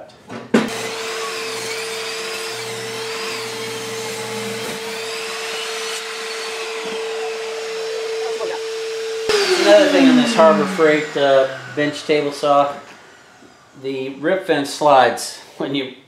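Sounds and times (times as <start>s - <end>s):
table saw whining: 0.7s - 15.2s.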